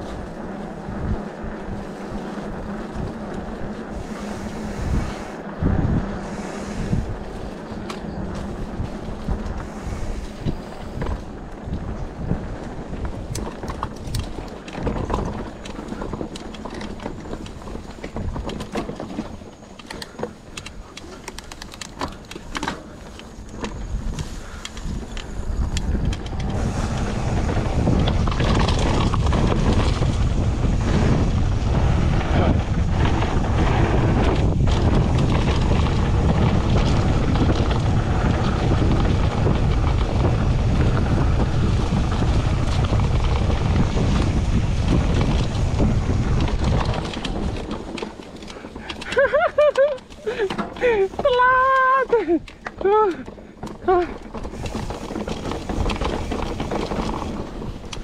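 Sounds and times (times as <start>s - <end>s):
bike rattling over rough ground: 0.0s - 58.0s
wind noise on microphone: 0.0s - 58.0s.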